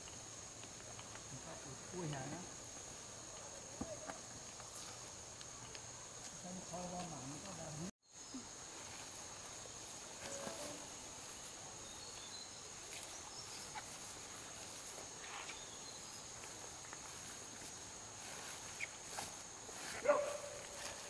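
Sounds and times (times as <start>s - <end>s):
high-pitched insect drone: 1.1s - 19.9s.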